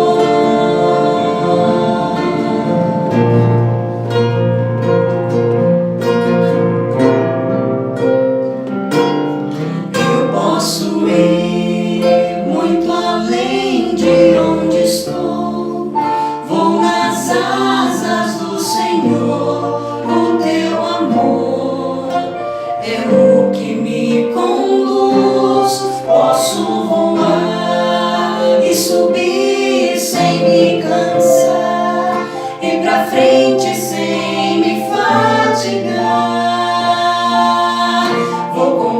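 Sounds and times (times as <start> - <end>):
worship song with singing: 0.0 - 3.7, 9.6 - 38.9.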